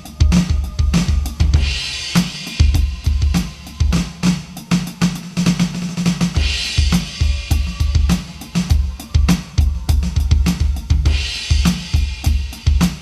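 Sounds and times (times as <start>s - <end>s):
cymbal crashes: 0.0s - 13.0s
electronic drum beat: 0.0s - 13.0s.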